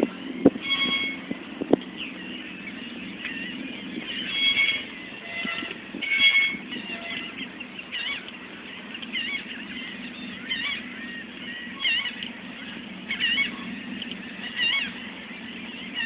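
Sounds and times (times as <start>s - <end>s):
birds calling: 0.0s - 16.0s
steady low hum: 0.0s - 16.0s.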